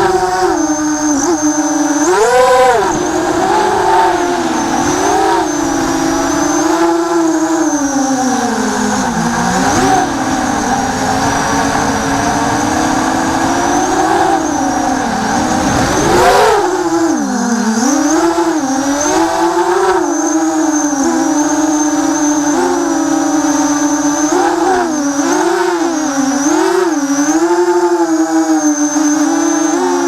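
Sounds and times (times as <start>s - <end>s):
quadcopter motors buzzing: 0.0s - 30.0s.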